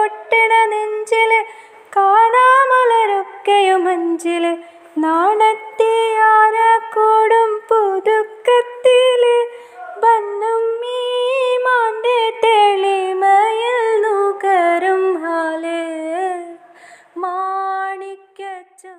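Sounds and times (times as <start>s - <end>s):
woman singing unaccompanied: 0.0s - 18.9s.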